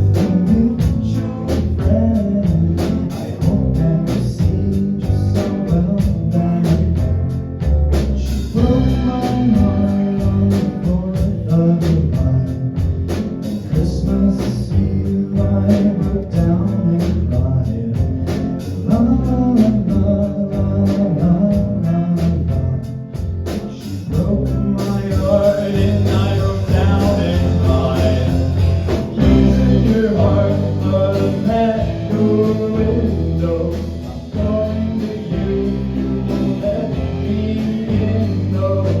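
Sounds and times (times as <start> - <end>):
live song with guitar and beat: 0.0 - 39.0.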